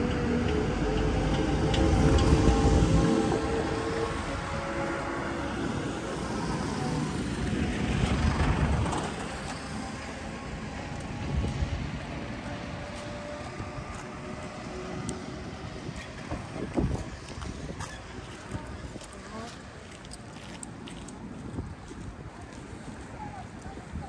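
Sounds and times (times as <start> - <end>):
steady traffic hum: 0.0 - 24.0.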